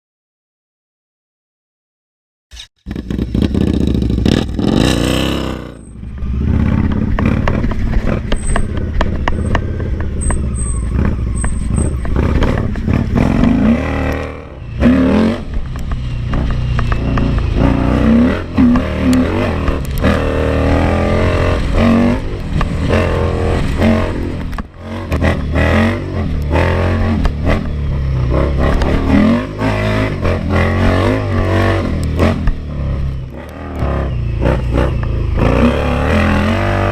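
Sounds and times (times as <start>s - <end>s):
motorcycle engine revving: 2.8s - 36.9s.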